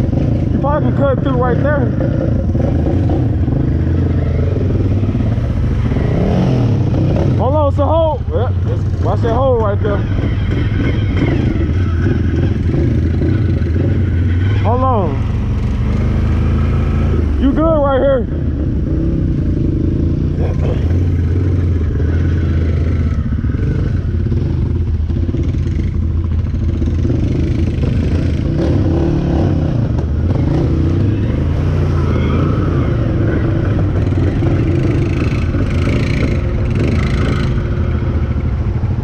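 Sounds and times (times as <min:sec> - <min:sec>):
engine revving: 0:00.0 - 0:39.0.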